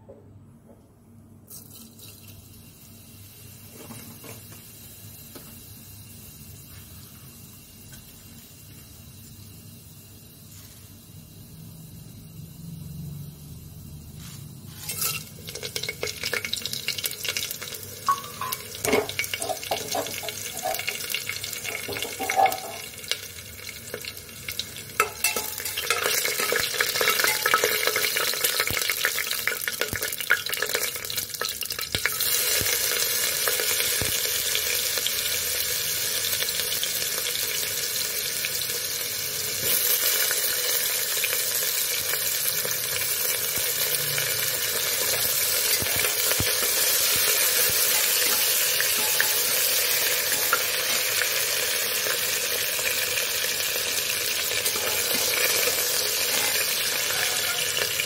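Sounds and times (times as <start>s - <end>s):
onion sizzling: 1.5s - 58.0s
spices crackling in hot oil: 1.5s - 58.0s.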